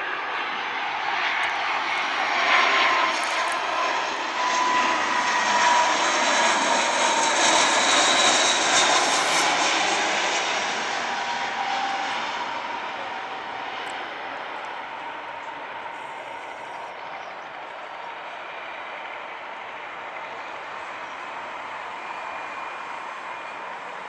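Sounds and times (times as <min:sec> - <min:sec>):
jet engines roaring past: 0:00.0 - 0:24.0.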